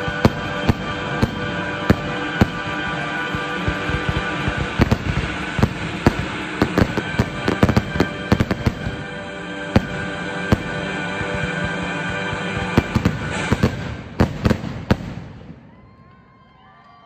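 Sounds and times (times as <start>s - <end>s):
music playing: 0.0s - 15.7s
fireworks banging and cracking: 0.0s - 15.8s.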